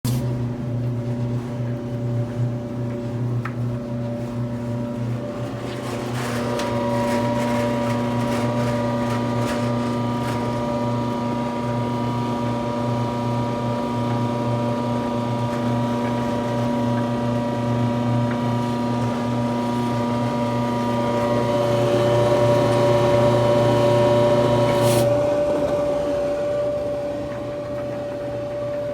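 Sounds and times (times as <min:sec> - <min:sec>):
dryer motor humming and whining: 0:00.1 - 0:28.9.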